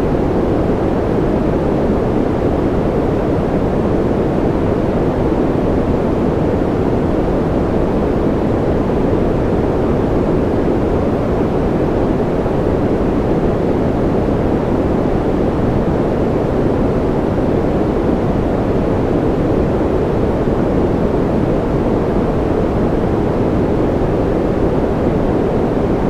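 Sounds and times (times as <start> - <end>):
deep muffled white noise: 0.0 - 26.0.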